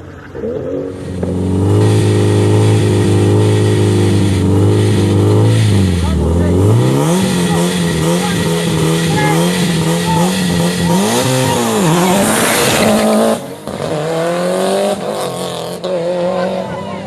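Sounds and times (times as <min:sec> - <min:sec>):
race car engines at full throttle: 0:00.0 - 0:17.0.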